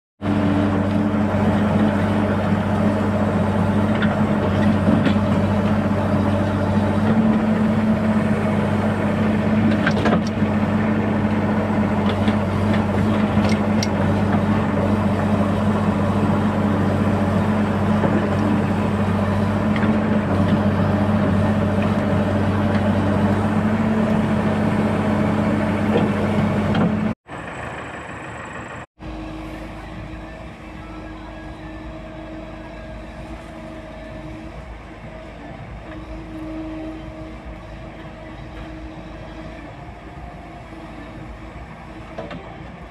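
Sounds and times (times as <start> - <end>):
diesel engine running: 0.2 - 42.9.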